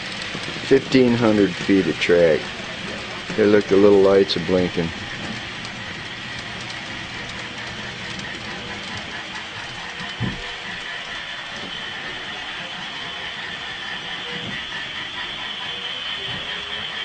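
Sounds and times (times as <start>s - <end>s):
clicking of wheels on track: 0.0s - 17.0s
whir of small model train motors: 0.0s - 17.0s.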